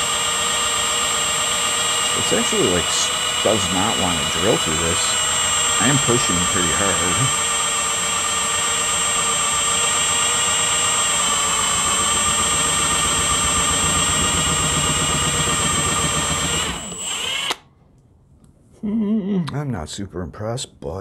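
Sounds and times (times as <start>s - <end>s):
drill running under load: 0.0s - 17.6s.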